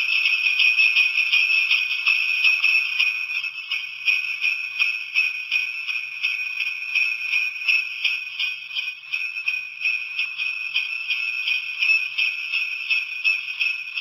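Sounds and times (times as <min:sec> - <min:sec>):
tinny sleigh bells jingling: 0:00.0 - 0:14.0.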